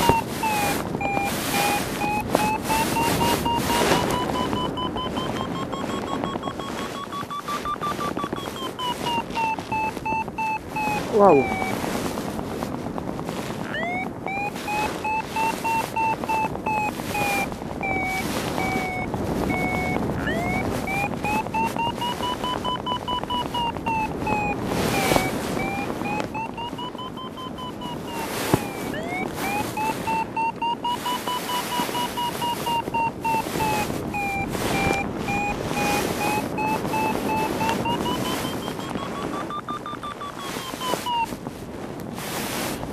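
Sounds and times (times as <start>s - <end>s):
variometer beeping: 0.0s - 12.2s, 13.3s - 41.5s
wind noise: 0.0s - 42.9s.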